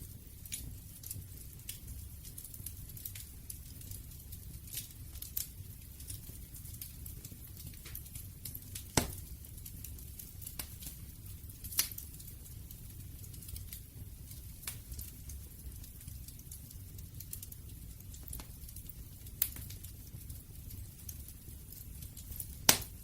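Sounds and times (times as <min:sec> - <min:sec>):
campfire rumble: 0:00.0 - 0:23.0
fire crackles and pops: 0:00.0 - 0:23.0.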